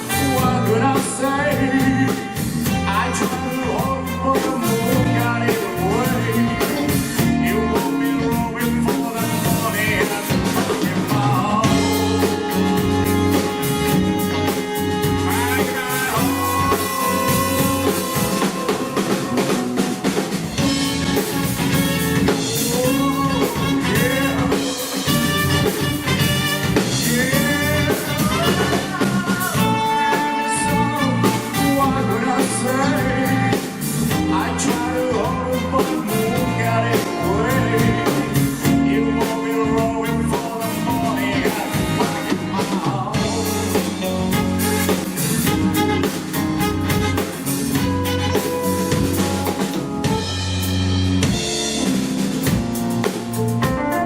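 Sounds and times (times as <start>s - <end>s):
live band music: 0.0s - 54.0s.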